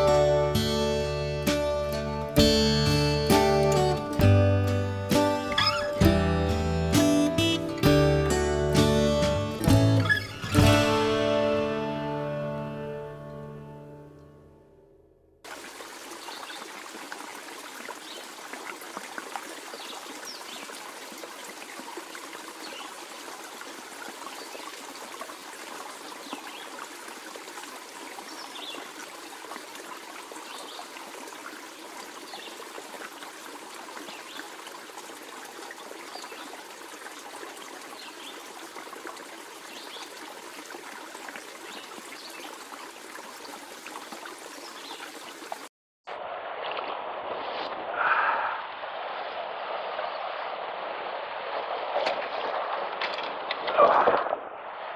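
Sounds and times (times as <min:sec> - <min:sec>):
river water flowing and trickling: 0:00.0 - 0:14.5, 0:15.4 - 0:54.9.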